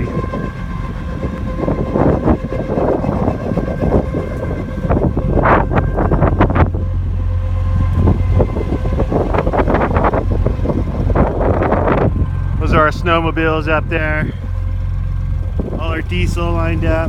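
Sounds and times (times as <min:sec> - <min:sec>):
steady machine hum: 0:00.0 - 0:17.0
wind buffeting microphone: 0:00.0 - 0:17.0.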